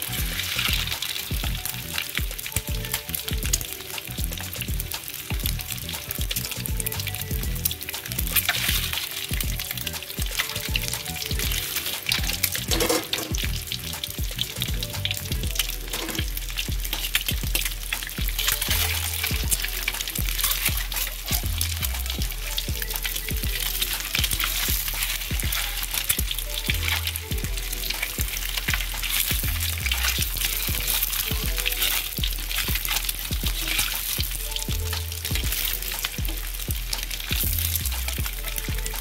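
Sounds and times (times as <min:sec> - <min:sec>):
eggs sizzling in hot oil: 0:00.0 - 0:39.0.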